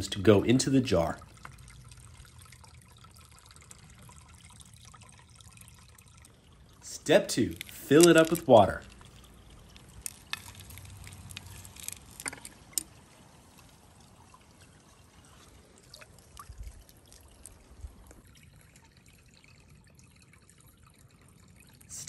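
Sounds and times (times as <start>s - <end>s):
water drips: 0.0s - 22.0s
water trickling into a glass jar: 0.0s - 22.0s.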